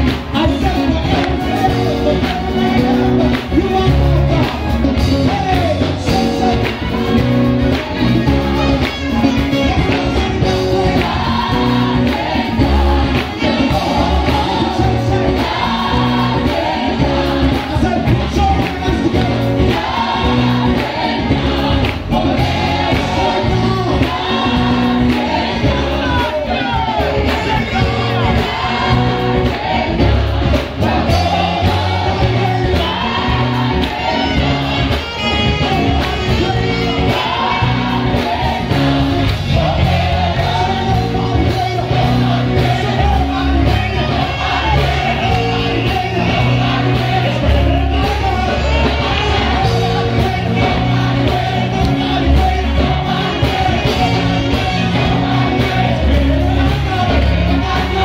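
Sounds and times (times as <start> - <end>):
band with heavy bass line: 0.0 - 58.0
group of singers singing: 0.0 - 58.0.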